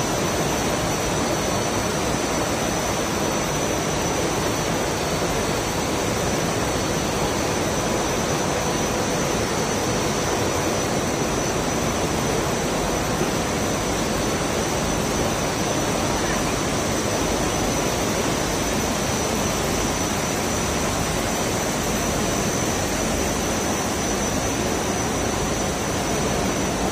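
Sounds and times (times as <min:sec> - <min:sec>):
bottling line machinery hum: 0:00.0 - 0:26.9
faint high machine whine: 0:00.0 - 0:26.9.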